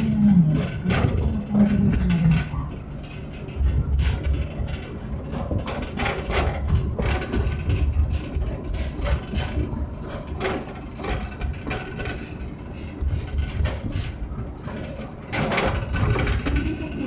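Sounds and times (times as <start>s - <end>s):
carriages rattling: 0.0s - 17.0s
train wheels rumbling: 0.0s - 17.0s.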